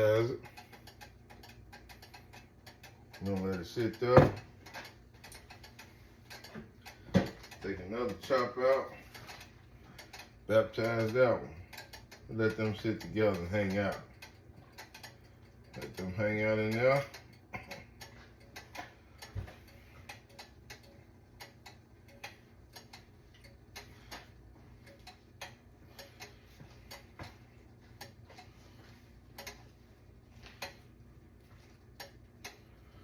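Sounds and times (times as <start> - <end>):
faint irregular ticks and clicks: 0.0 - 33.0
low steady hum: 0.0 - 33.0.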